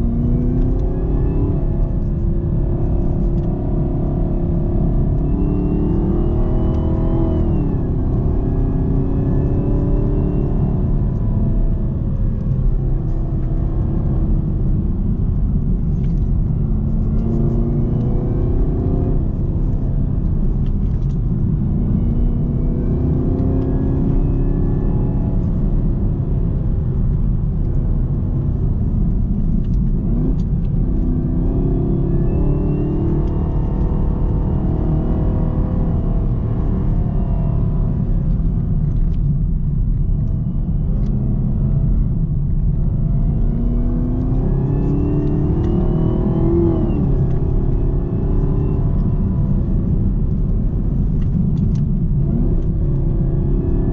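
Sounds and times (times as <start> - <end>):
car engine revving: 0.0 - 53.9
low road rumble: 0.0 - 53.9
supercharger whine: 0.0 - 53.9.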